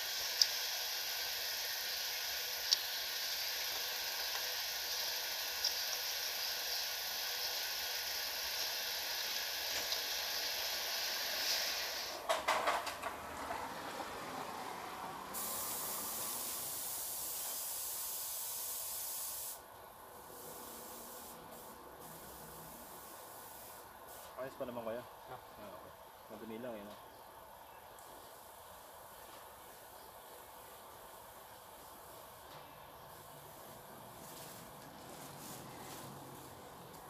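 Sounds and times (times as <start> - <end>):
steady hiss: 0.0 - 12.3, 15.2 - 26.9, 27.9 - 37.0.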